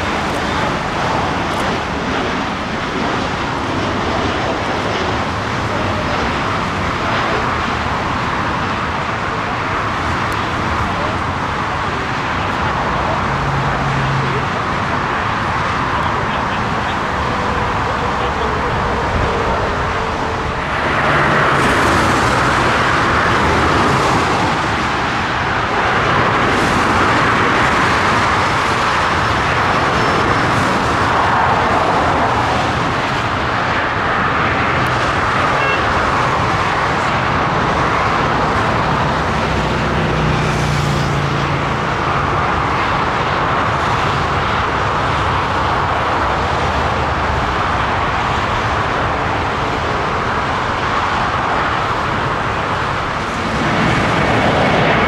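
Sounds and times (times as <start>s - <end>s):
jet engines rushing: 0.0s - 55.0s.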